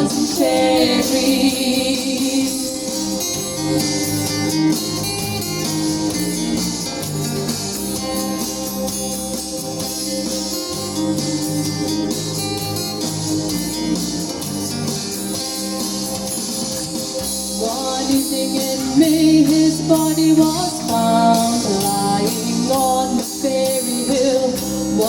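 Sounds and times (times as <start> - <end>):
bass line: 0.0 - 25.0
strummed guitar: 0.0 - 25.0.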